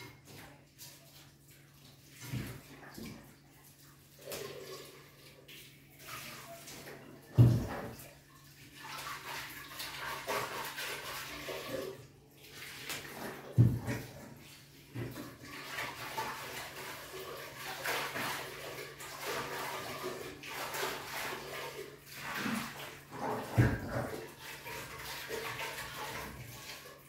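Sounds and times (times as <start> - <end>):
water splashing in sink: 0.0 - 27.0.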